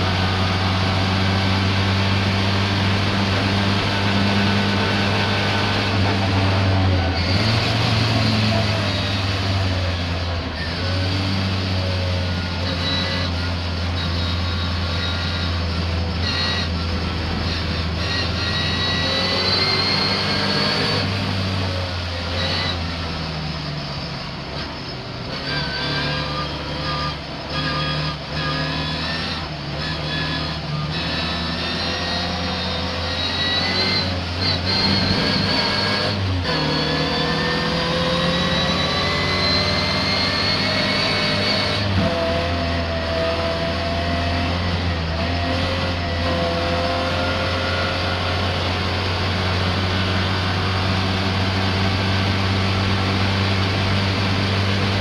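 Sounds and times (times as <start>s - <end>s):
misfiring racing car engine: 0.0s - 55.0s.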